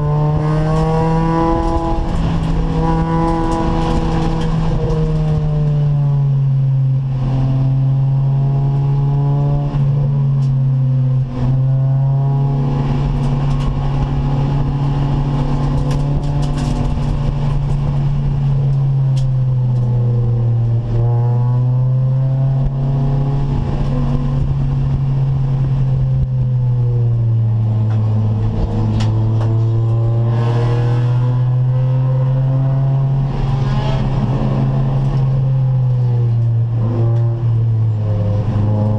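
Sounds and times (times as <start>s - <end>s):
race car engine under load: 0.0s - 38.9s.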